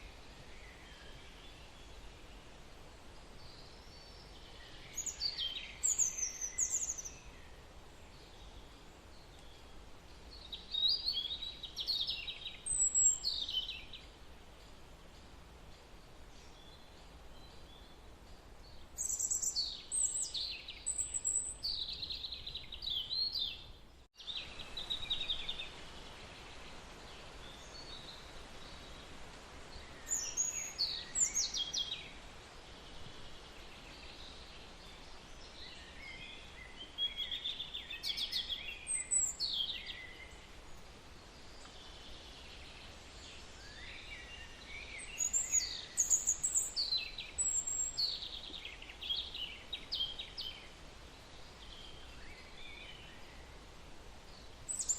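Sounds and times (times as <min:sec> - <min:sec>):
background hiss: 0:00.0 - 0:54.9
birds chirping and trilling: 0:03.4 - 0:29.1, 0:29.7 - 0:50.8, 0:54.3 - 0:54.9.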